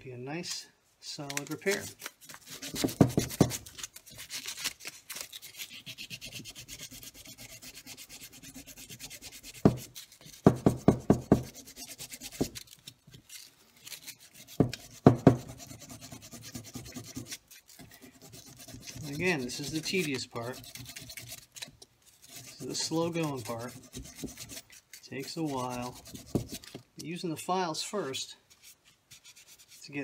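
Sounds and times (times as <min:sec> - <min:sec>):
sandpaper rubbing on plastic: 0:01.4 - 0:26.8, 0:28.5 - 0:30.0.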